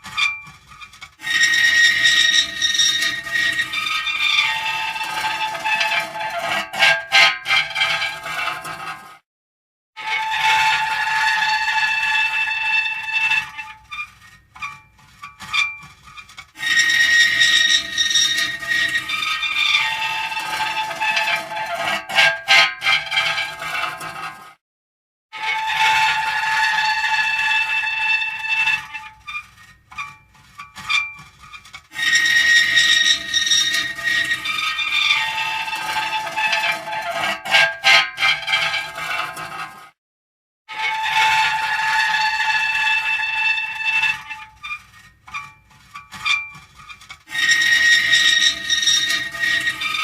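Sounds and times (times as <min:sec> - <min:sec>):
metal creaking: 0:00.0 - 0:09.0, 0:10.0 - 0:24.4, 0:25.4 - 0:39.8, 0:40.8 - 0:50.0
short metal squeaks: 0:00.0 - 0:09.0, 0:10.0 - 0:24.4, 0:25.4 - 0:39.8, 0:40.7 - 0:50.0.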